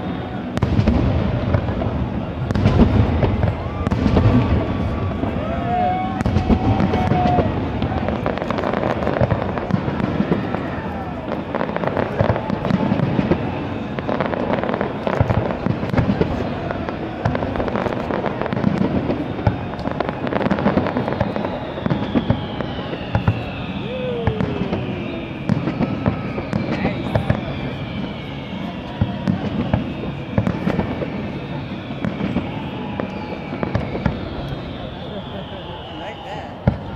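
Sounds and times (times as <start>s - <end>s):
fireworks bangs and crackle: 0.0s - 36.9s.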